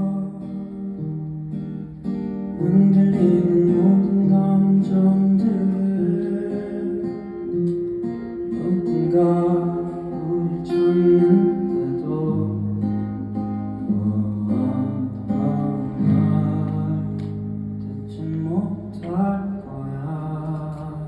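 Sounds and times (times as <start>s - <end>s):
live band guitar music: 0.0s - 21.0s.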